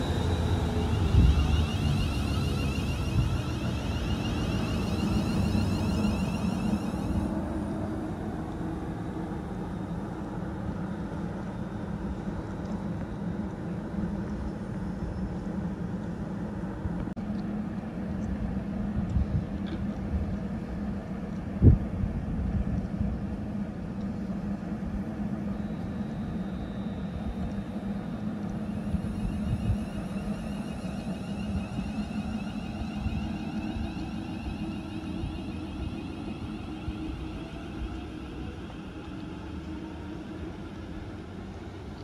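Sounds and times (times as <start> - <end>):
train rumbling: 0.0 - 42.0.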